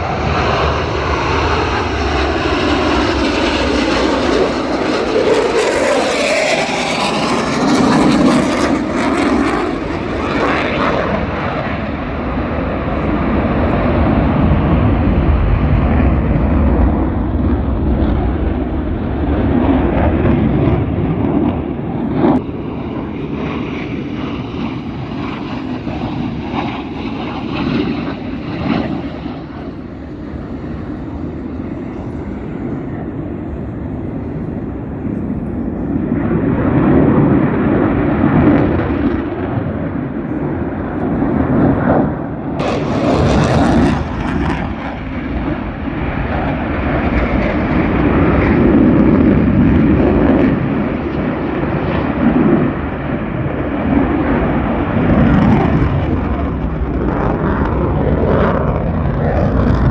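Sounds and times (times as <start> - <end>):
plane flying past: 0.0 - 59.9.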